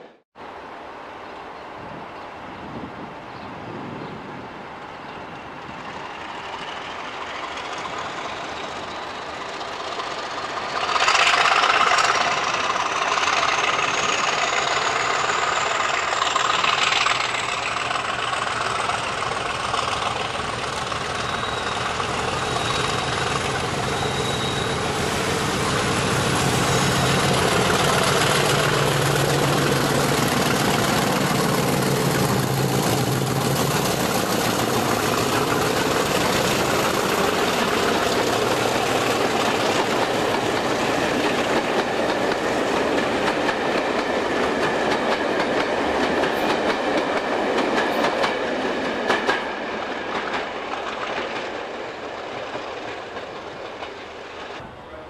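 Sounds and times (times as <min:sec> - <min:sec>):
diesel locomotive passing: 0:03.1 - 0:55.0.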